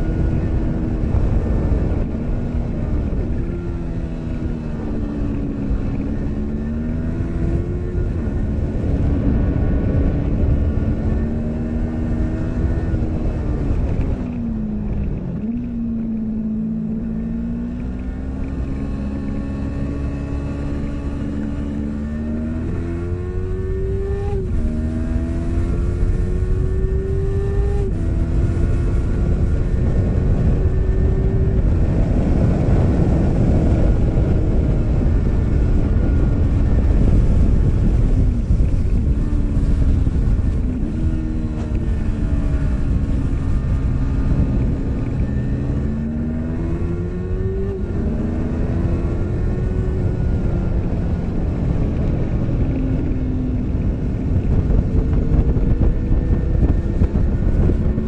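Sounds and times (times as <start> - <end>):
motorcycle engine revving: 0.0 - 58.0
wind rushing on microphone: 0.0 - 58.0.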